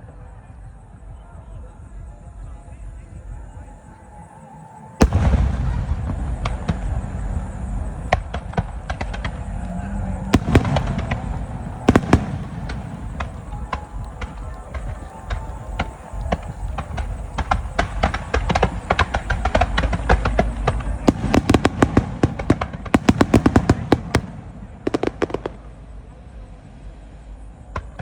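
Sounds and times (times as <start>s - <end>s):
fireworks cracks and bangs: 0.1s - 28.0s
low rumble: 5.0s - 28.0s.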